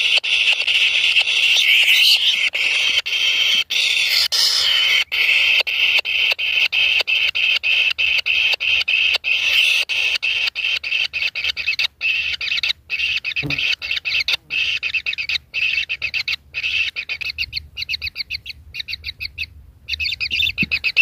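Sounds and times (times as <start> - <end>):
nestlings begging chatter: 0.0 - 21.0.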